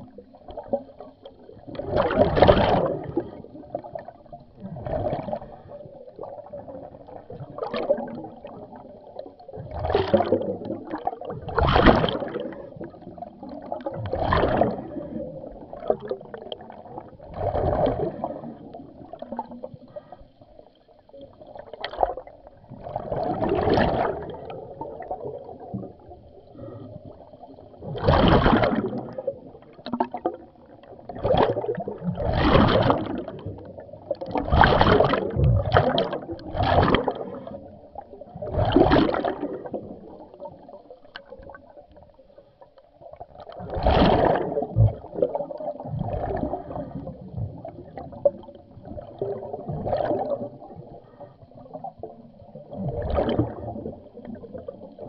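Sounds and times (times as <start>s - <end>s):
underwater exhaled bubbles gurgling: 0.0s - 55.0s.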